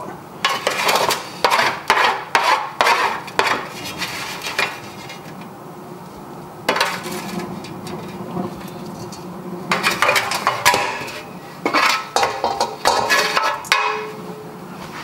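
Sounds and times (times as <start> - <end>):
utensil scraping roasting tray: 0.0 - 15.0.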